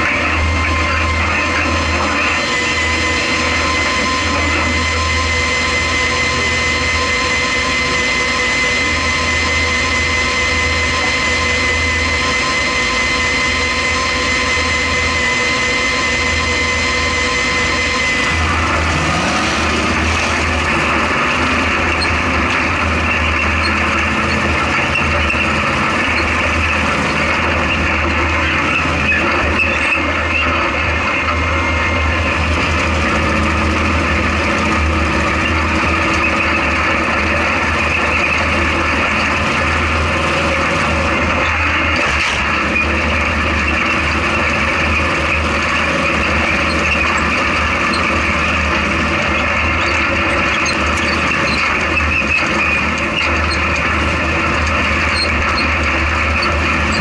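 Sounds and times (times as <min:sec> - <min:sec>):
driving noise: 0:00.0 - 0:57.0
off-road vehicle engine drone: 0:00.0 - 0:57.0.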